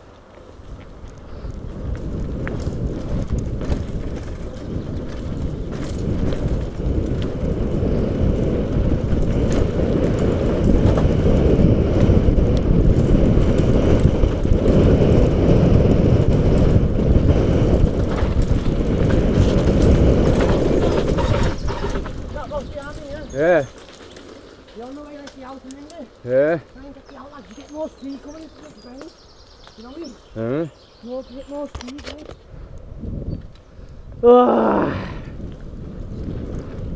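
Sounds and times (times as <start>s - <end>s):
bike tyres and frame rattling: 0.0s - 36.9s
wind buffeting microphone: 0.0s - 36.9s.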